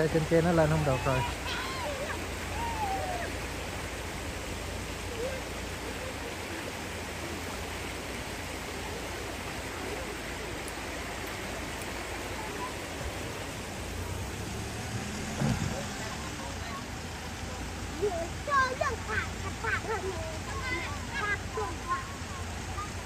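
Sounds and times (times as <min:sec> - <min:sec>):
mountain stream rushing over stones: 0:00.0 - 0:23.0.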